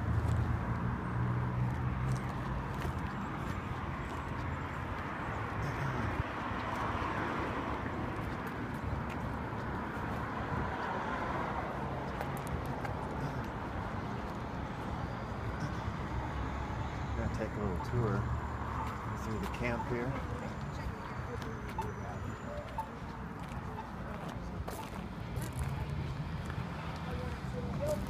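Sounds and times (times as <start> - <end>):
distant road traffic: 0.0 - 28.0.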